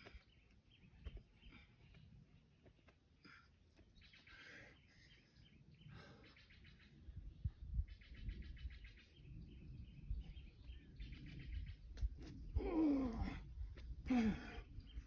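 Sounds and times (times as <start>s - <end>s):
small birds chirping and trilling: 0.0s - 15.0s.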